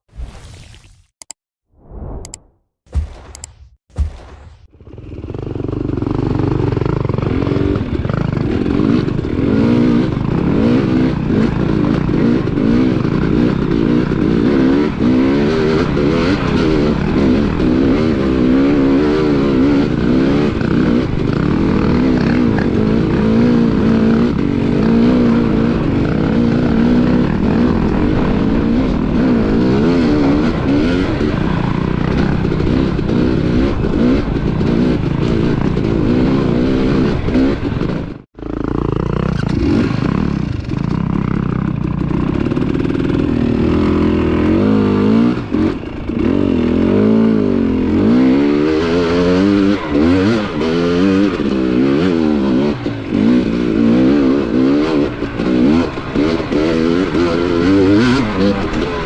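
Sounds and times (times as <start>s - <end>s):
dirt bike engine revving: 4.0s - 59.0s.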